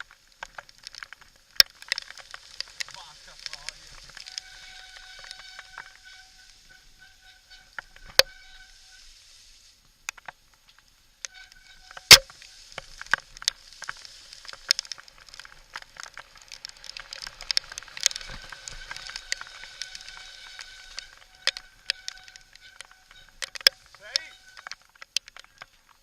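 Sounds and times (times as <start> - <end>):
mountain bike rattling over rocks: 0.0 - 8.3, 10.0 - 26.0.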